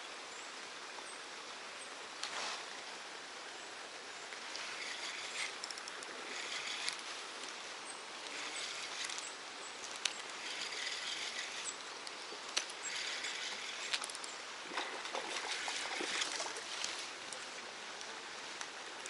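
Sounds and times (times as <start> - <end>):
running water hiss: 0.0 - 19.0.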